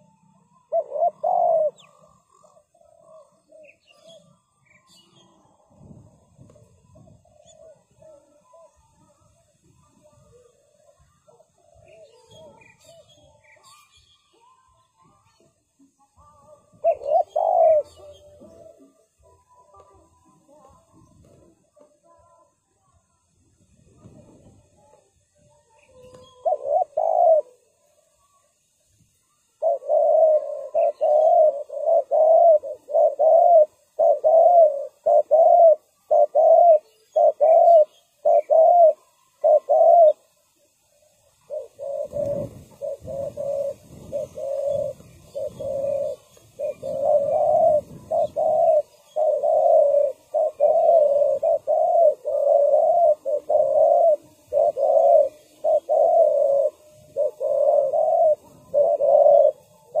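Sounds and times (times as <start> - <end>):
doves cooing: 0.0 - 22.6, 23.8 - 28.6, 29.2 - 60.0.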